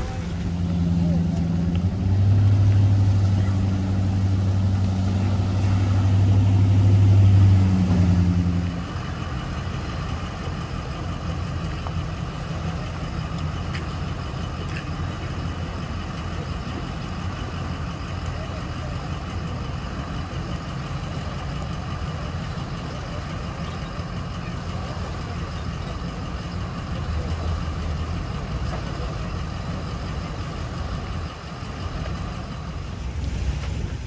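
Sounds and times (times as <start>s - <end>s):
pickup truck engine running: 0.0s - 34.0s.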